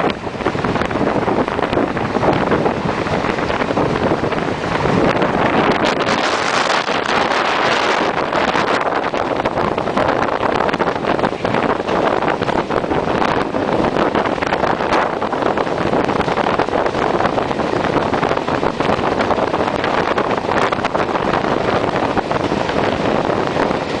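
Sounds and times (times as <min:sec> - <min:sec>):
train running on rails: 0:00.0 - 0:24.0
wind buffeting microphone: 0:00.0 - 0:24.0.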